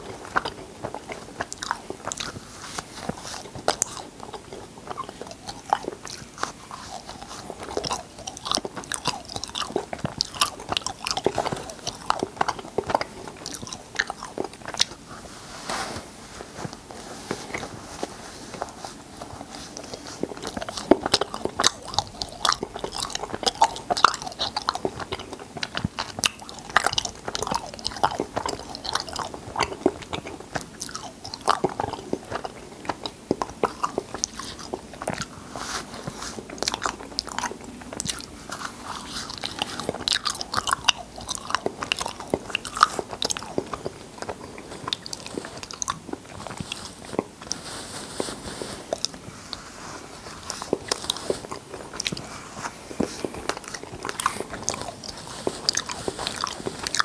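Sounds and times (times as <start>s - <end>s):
chewing and wet mouth sounds: 0.0s - 57.0s.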